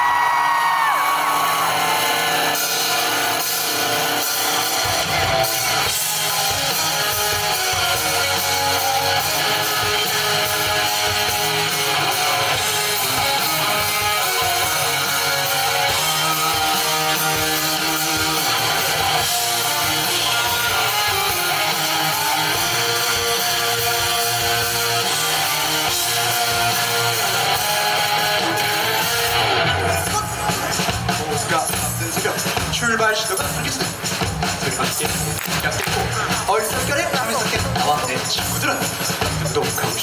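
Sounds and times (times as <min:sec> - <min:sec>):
live rock band playing: 0:01.0 - 0:40.0
strummed electric guitar: 0:01.3 - 0:40.0.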